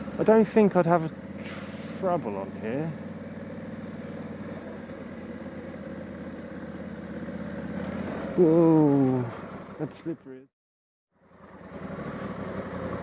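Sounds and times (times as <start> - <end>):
motorcycle engine running: 0.0 - 10.3, 11.1 - 13.0.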